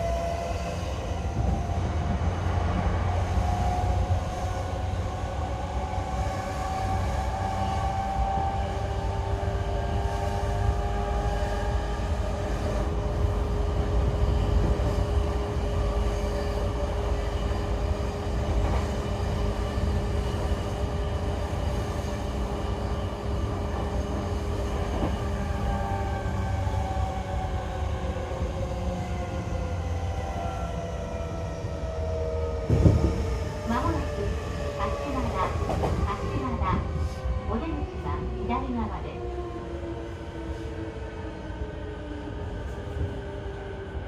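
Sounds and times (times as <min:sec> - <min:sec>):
wheels rumbling on rails: 0:00.0 - 0:32.0, 0:32.6 - 0:39.4.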